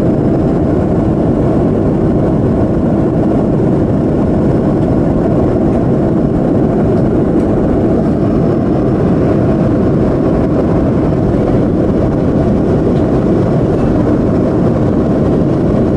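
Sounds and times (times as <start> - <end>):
jet engines running in flight: 0.0 - 15.9.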